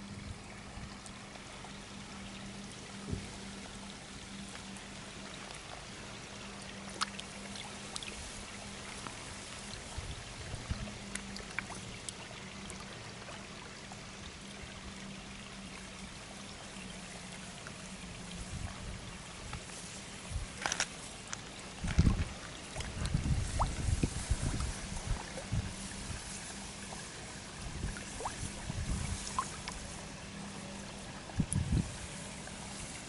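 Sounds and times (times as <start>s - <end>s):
fish splashing and slurping: 0.0s - 33.0s
water running in a pond: 0.0s - 33.0s.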